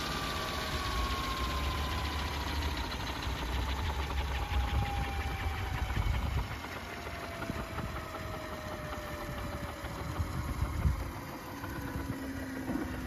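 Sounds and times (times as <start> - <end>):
lower whine: 0.0 - 13.0
motor and gear whine: 0.0 - 13.0.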